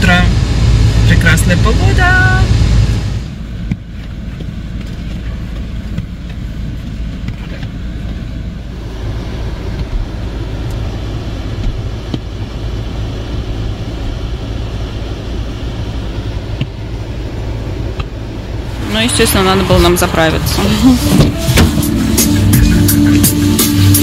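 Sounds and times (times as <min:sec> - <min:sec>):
car engine rumble: 0:00.0 - 0:24.0
road noise: 0:00.0 - 0:24.0.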